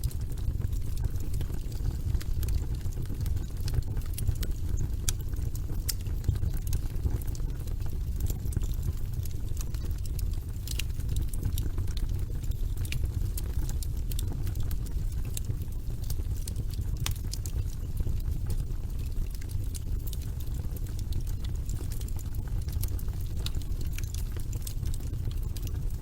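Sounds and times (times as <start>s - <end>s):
fireplace flames rumbling: 0.0s - 26.0s
wood crackling and popping: 0.0s - 26.0s.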